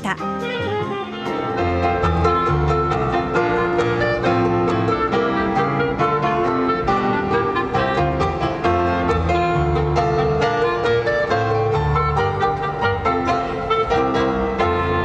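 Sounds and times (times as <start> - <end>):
clarinet playing held notes: 0.0 - 15.0.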